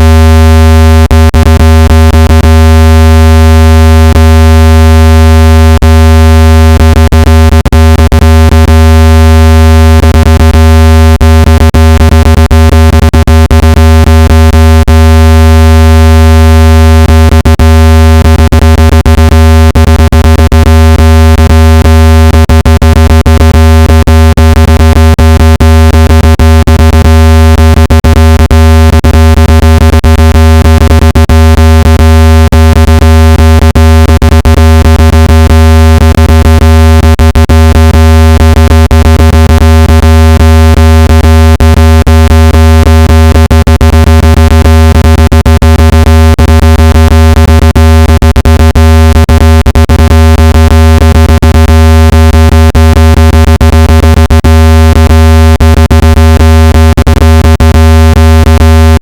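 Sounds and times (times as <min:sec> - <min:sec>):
low-pitched buzzing tone: 0:00.0 - 0:49.3, 0:54.9 - 0:59.0.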